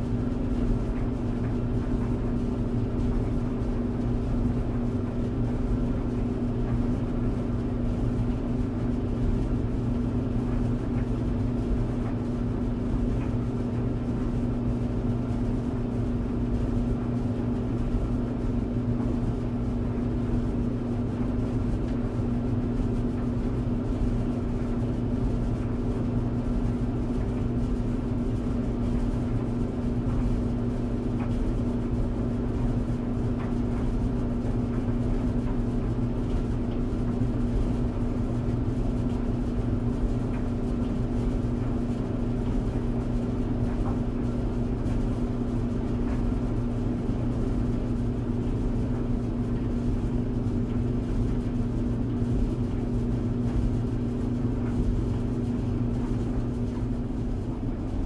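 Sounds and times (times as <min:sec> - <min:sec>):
tumble dryer running: 0:00.0 - 0:58.0.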